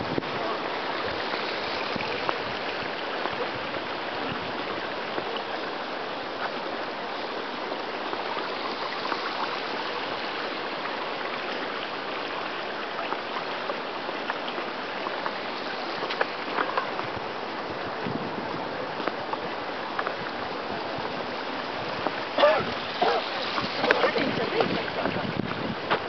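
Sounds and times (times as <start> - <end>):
running water trickling: 0.0 - 26.0.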